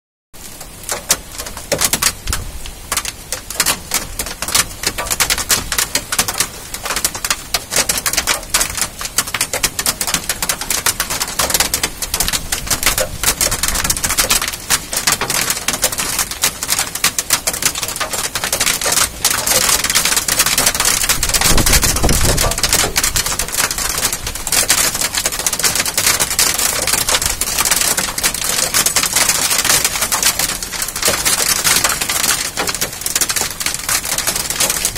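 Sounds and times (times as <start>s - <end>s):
hailstones clattering: 0.8s - 34.9s.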